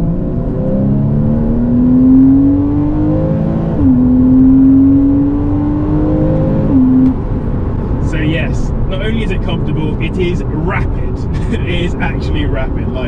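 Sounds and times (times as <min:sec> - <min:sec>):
car engine accelerating through gears: 0:00.0 - 0:10.5.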